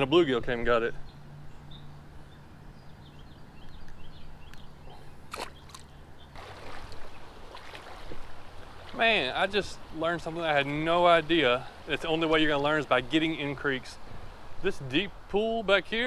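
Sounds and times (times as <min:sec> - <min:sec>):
creek water trickling: 0:01.6 - 0:16.0.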